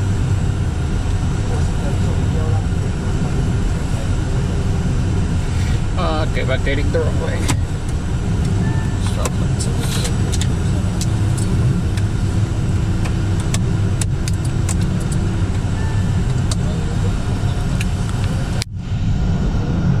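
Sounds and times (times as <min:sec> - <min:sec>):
aircraft engine rumble in cockpit: 0:00.0 - 0:20.0.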